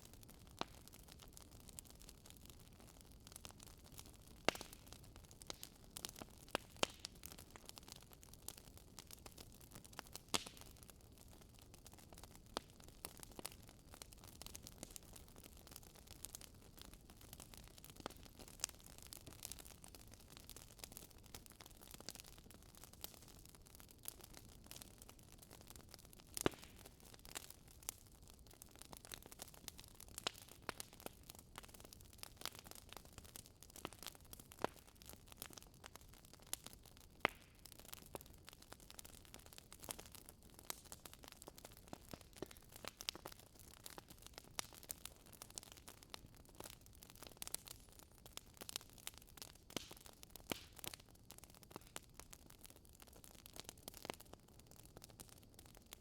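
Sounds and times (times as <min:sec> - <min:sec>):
wood fire snaps and pops: 0:00.0 - 0:56.0.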